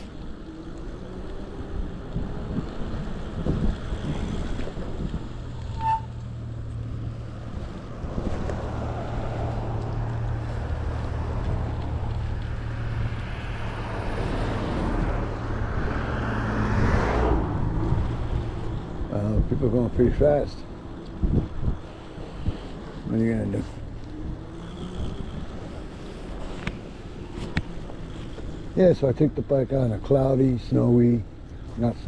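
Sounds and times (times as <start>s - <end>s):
road traffic noise: 0.0s - 32.0s
wind buffeting microphone: 0.0s - 32.0s.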